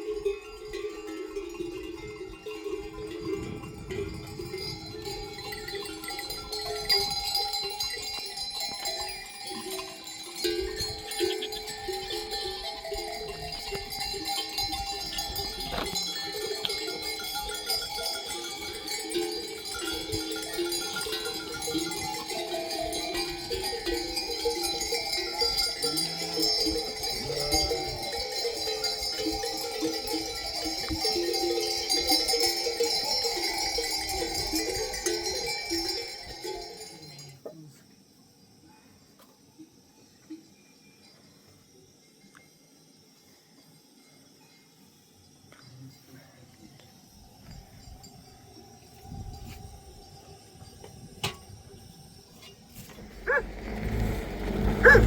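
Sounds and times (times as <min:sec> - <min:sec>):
livestock bells clanking: 0:00.0 - 0:37.4, 0:47.1 - 0:52.2, 0:52.8 - 0:55.0.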